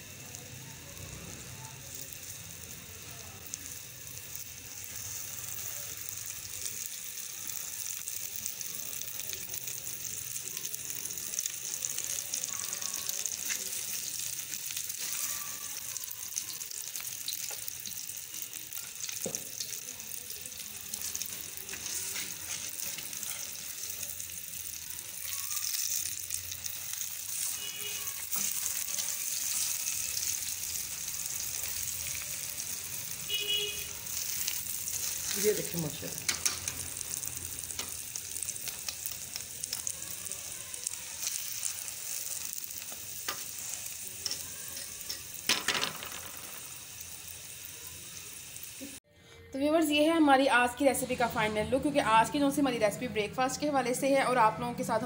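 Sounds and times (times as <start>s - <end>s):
ghee sizzling on a griddle: 0.0s - 55.0s.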